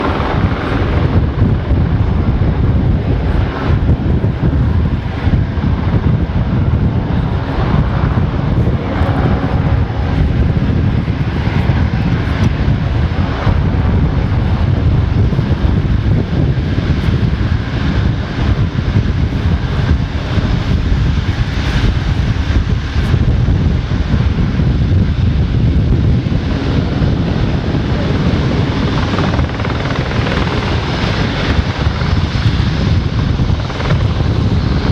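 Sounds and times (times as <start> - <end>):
aircraft engines running: 0.0 - 34.9.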